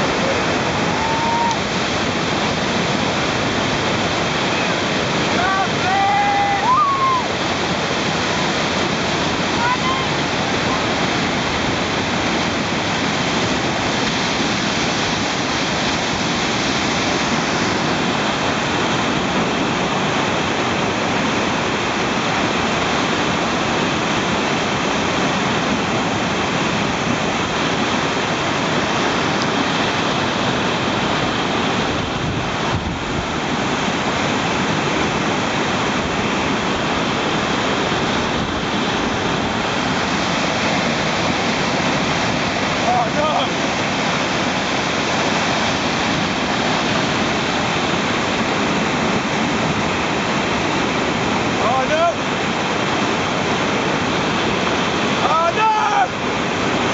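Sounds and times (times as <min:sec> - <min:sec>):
river rapids rushing: 0:00.0 - 0:56.9.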